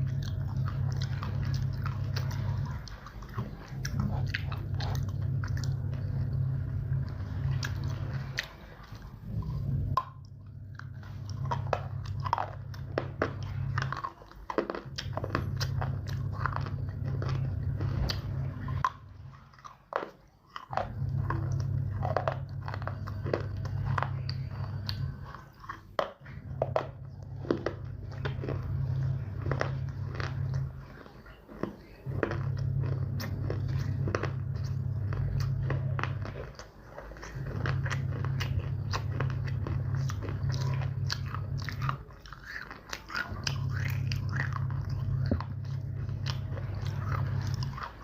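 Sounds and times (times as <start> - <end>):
low rumble: 0.0 - 19.8, 20.5 - 48.0
crunchy chewing: 0.0 - 48.0.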